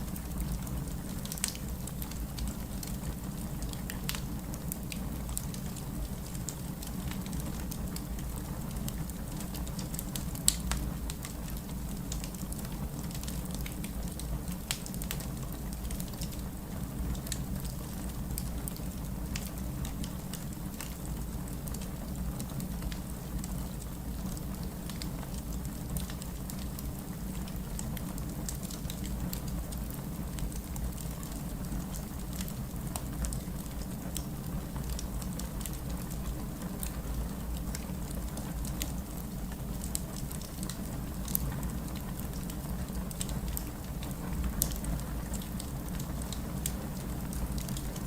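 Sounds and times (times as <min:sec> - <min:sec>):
fireplace crackling and popping: 0:00.0 - 0:48.0
rain rumble: 0:00.0 - 0:48.0.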